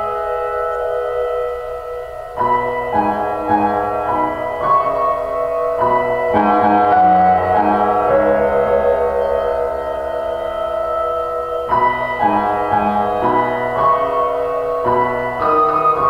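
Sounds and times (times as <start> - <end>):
slow keyboard melody: 0.0 - 16.0
sustained ambient tones: 0.0 - 16.0.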